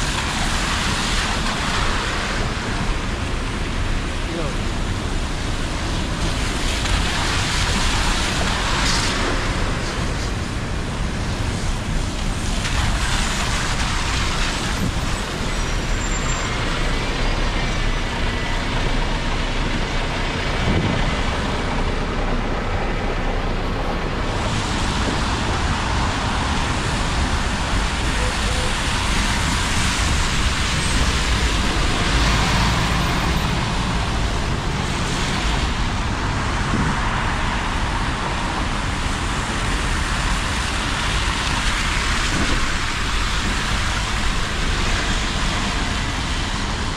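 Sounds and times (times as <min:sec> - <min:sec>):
bus passing close: 0:00.0 - 0:46.9
tyres hissing on wet road: 0:00.0 - 0:46.9
vehicle engines rumbling: 0:00.0 - 0:46.9.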